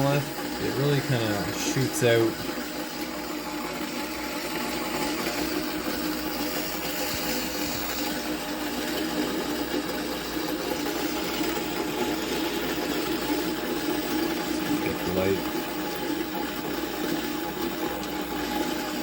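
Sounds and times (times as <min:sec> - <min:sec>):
coffee grinder grinding beans: 0:00.0 - 0:19.0.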